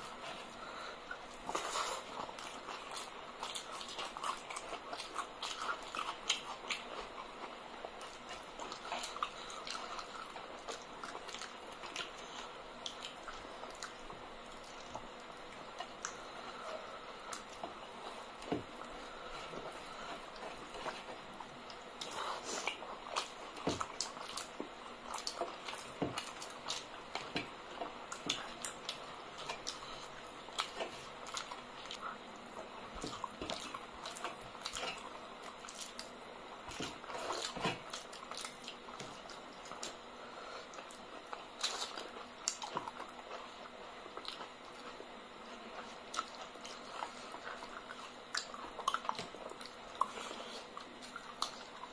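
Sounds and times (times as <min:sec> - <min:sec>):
chewing with mouth clicks and smacks: 0:00.0 - 0:51.9
wet squishing of fingers mixing food: 0:00.0 - 0:51.9.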